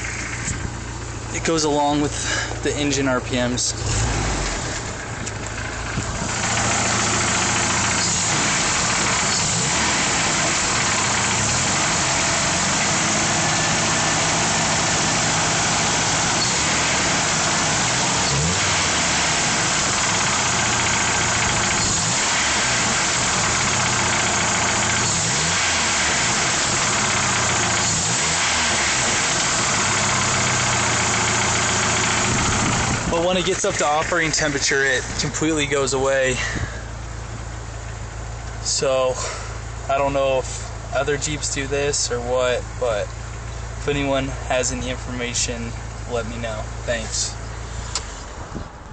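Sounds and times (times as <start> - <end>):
car engine knocking and revving: 0.0 - 46.8.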